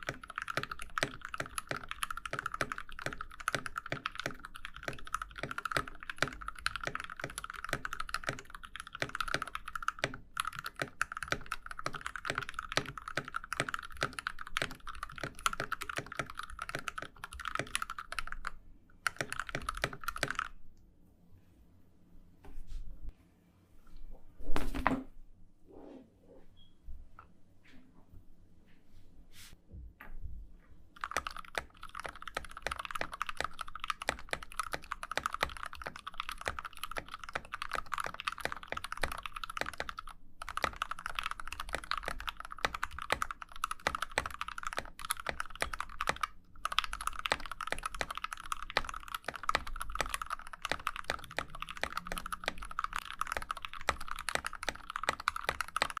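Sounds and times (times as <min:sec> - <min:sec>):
mechanical keyboard typing: 0:00.0 - 0:20.6, 0:31.0 - 0:56.0.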